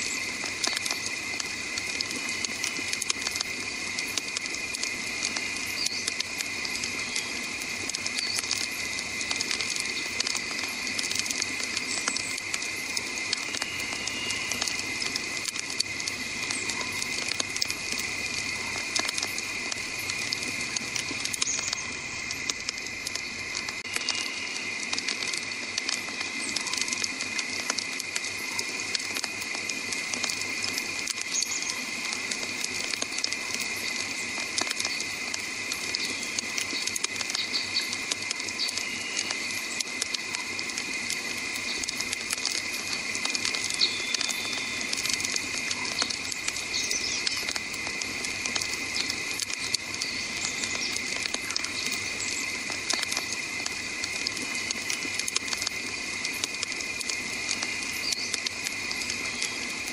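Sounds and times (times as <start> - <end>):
campfire pops and snaps: 0.0 - 59.9
rush of flames: 0.0 - 59.9.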